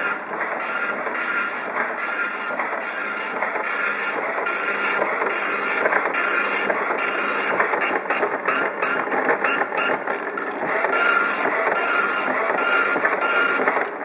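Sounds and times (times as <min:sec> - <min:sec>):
dot matrix printer printing: 0:00.0 - 0:14.0.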